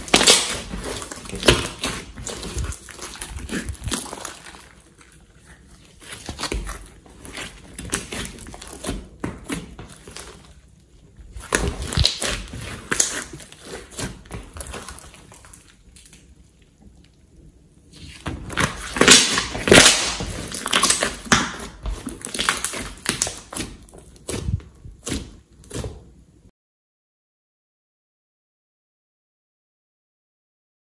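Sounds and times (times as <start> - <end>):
slime squishing: 0.0 - 26.3.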